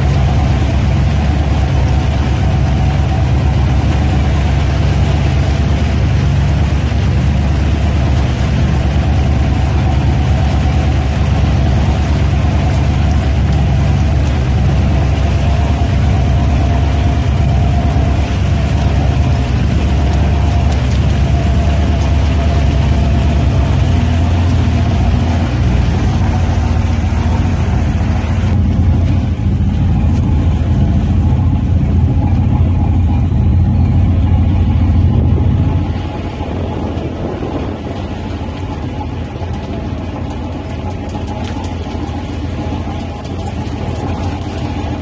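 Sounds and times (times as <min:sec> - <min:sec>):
boat engines rumbling: 0:00.0 - 0:45.0.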